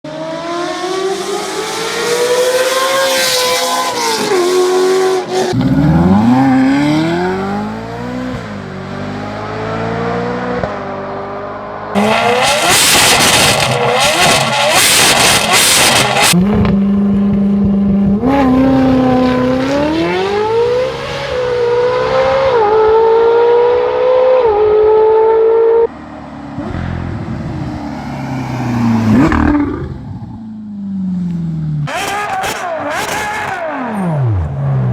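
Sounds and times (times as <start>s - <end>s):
car engines revving: 0.0s - 34.9s.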